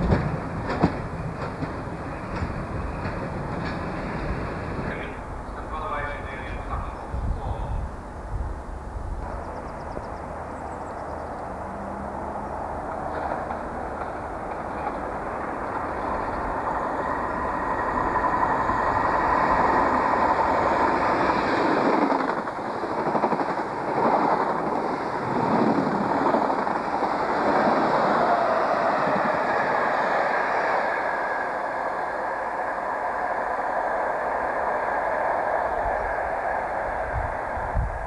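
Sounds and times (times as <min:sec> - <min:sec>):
passenger train wheels on rail: 0:00.0 - 0:38.0.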